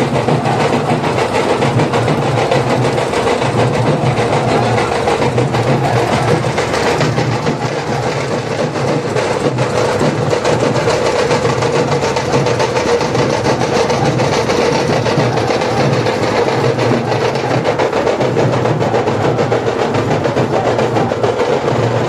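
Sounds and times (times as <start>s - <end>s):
drum troupe playing fast beat: 0.0s - 22.0s.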